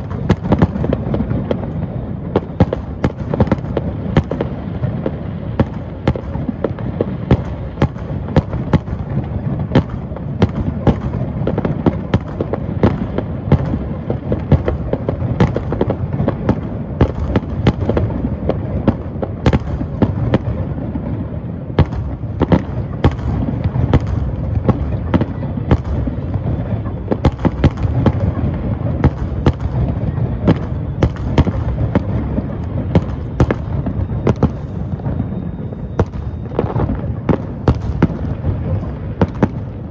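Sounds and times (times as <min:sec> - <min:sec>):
sharp firework cracks: 0:00.0 - 0:35.2, 0:35.9 - 0:39.9
fireworks booming: 0:00.0 - 0:39.9.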